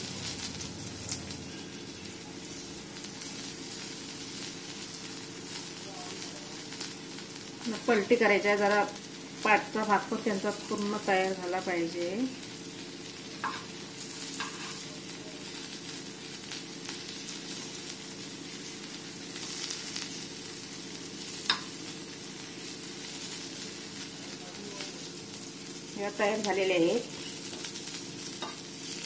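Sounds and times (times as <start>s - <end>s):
meat sizzling in oil: 0.0s - 29.0s.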